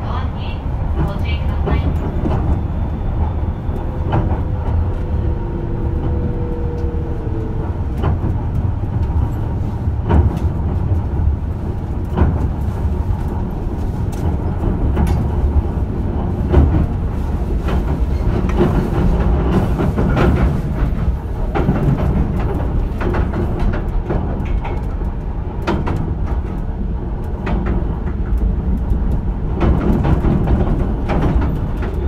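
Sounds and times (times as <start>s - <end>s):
train running rumble: 0.0s - 32.0s
wheel clacks on track: 0.9s - 32.0s.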